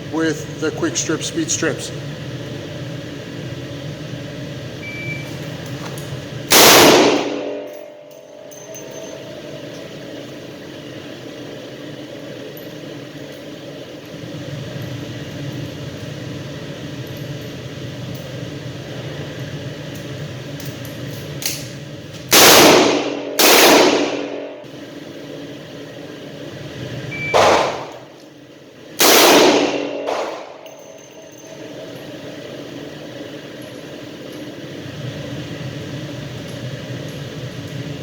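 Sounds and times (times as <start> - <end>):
steady background noise: 0.0 - 38.0.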